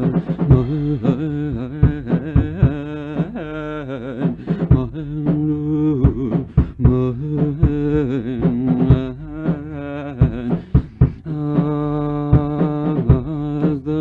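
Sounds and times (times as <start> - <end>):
man singing held notes: 0.0 - 14.0.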